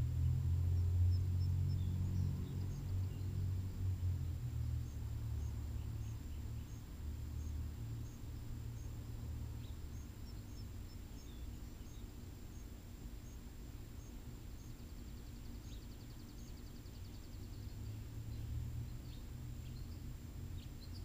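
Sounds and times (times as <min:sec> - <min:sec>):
low steady rumble: 0:00.0 - 0:21.0
faint bird chirps: 0:04.1 - 0:21.0.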